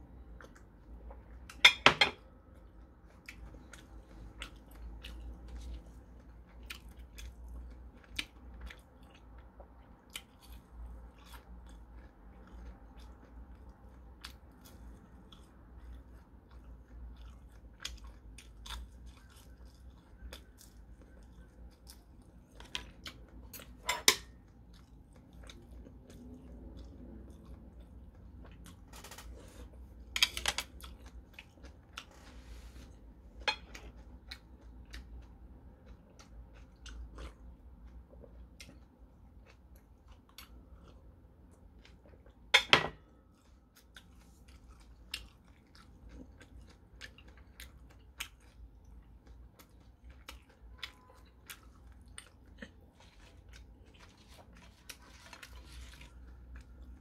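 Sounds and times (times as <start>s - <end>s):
chewing crunchy fried shrimp: 2.2s - 57.0s.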